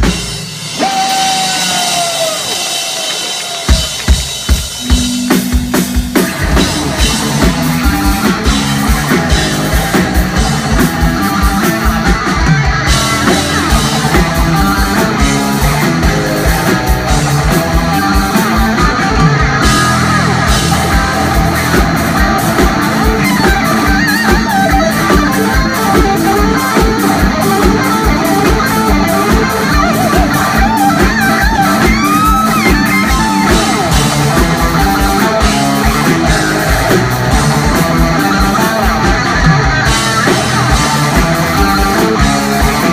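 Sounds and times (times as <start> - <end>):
driving drum beat: 0.0 - 42.9
electric guitar lead: 0.0 - 42.9
electric bass: 3.7 - 42.9.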